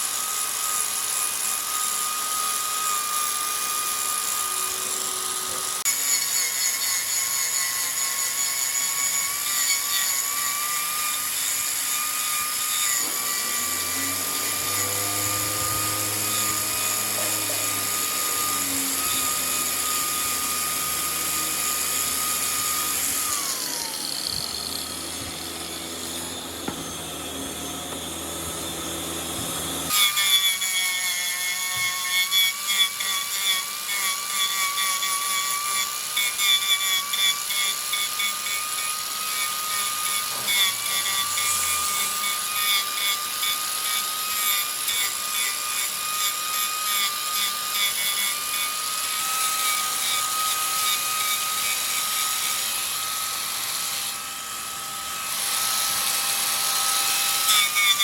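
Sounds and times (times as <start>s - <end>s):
wood lathe motor whine: 0.0s - 58.0s.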